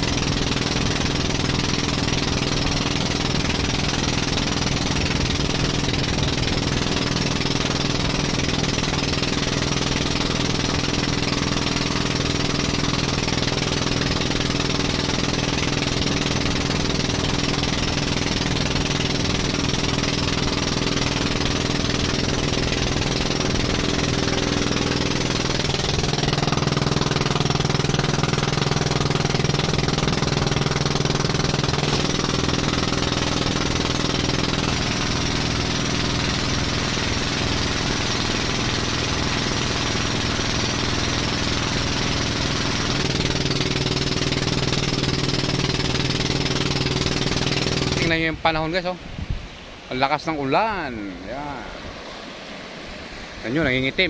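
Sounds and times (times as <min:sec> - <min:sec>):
boat engine running: 0:00.0 - 0:54.0
water splashing: 0:00.0 - 0:54.0
wind: 0:00.0 - 0:54.0.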